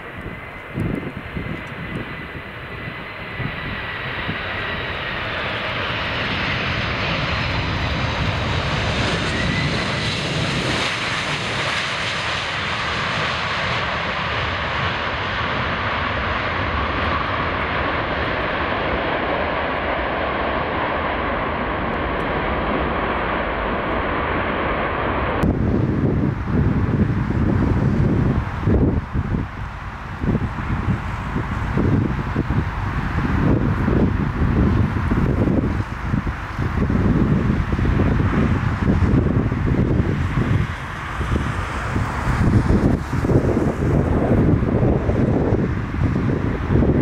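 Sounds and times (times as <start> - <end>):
jet engines passing close: 0.0 - 47.0.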